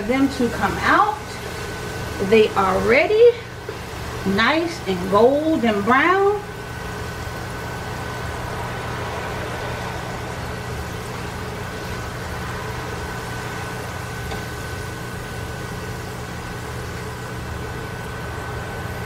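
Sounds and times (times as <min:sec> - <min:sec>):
fries sizzling in oil: 0:00.0 - 0:19.0
steady low hum: 0:00.0 - 0:19.0
thin steady whine: 0:00.0 - 0:19.0.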